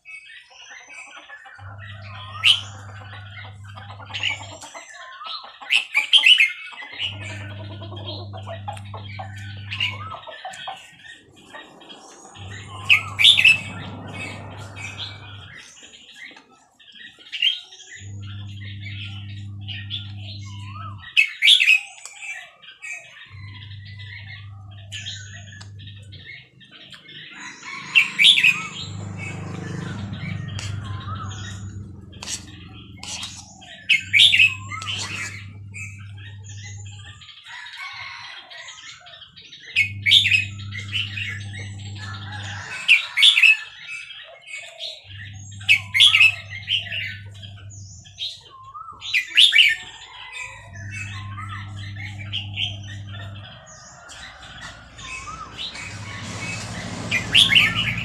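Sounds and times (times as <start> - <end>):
bird chirps and twitters: 0.0 - 58.0.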